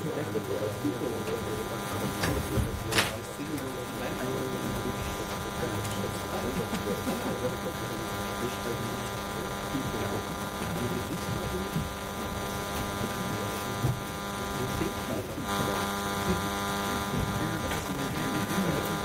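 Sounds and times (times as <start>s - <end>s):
electrical buzz: 0.0s - 19.0s.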